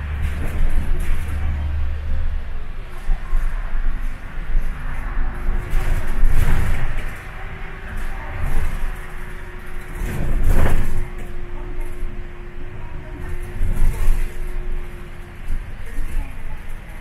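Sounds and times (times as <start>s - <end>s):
bus engine hum and rumble: 0.0s - 17.0s
tyre noise on wet road: 0.0s - 17.0s.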